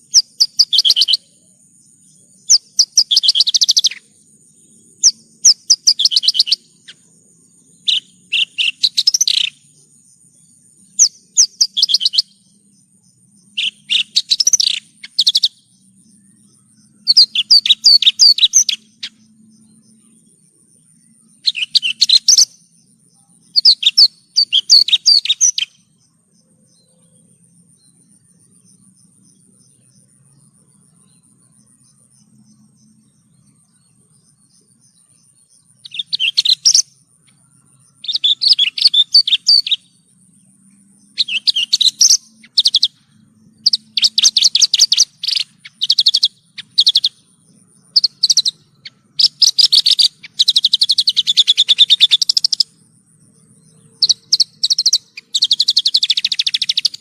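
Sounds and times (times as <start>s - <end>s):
bush lark trilling song: 0.0s - 57.0s.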